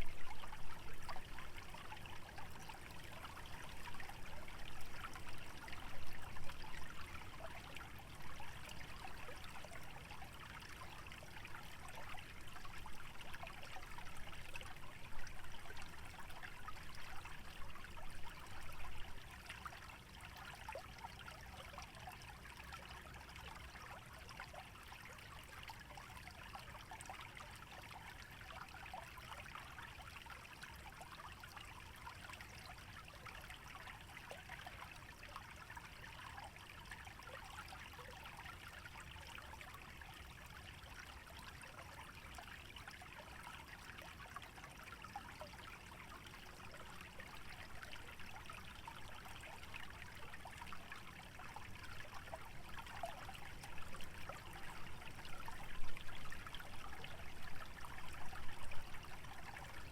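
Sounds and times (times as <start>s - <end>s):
stream trickling and burbling: 0.0s - 59.9s.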